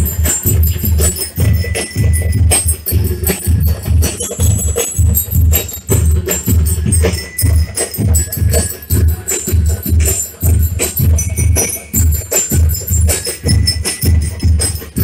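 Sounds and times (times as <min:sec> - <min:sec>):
bass drums beating: 0:00.0 - 0:15.0
bell lyres ringing: 0:00.0 - 0:15.0
rattling snare drums: 0:00.0 - 0:15.0.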